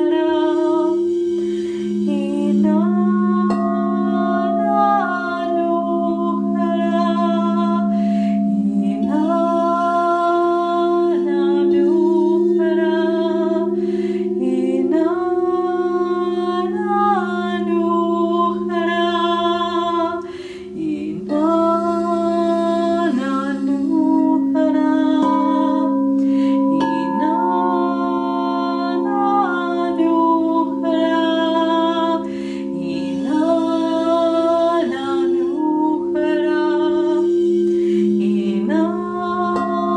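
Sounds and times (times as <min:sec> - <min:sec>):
crystal singing bowls humming: 0:00.0 - 0:39.9
woman singing long notes: 0:00.0 - 0:39.9.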